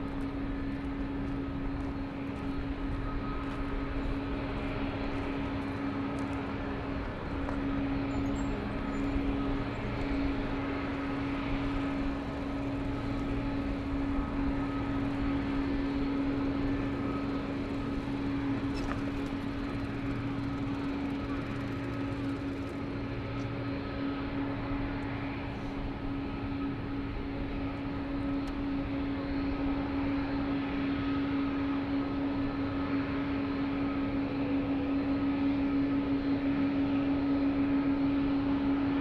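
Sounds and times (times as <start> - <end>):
jet engines taxiing: 0.0 - 39.0.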